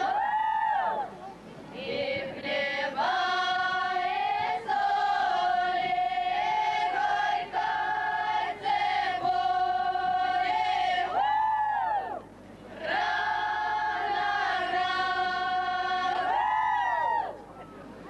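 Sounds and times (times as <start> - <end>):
choir of female voices singing: 0.0 - 1.0, 1.8 - 17.3.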